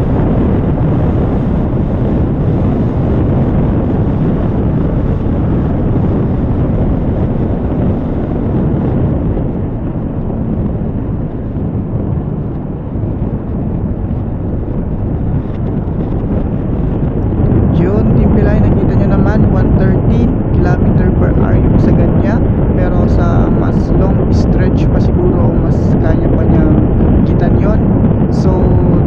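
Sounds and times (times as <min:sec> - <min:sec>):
wind buffeting the microphone: 0:00.0 - 0:29.0.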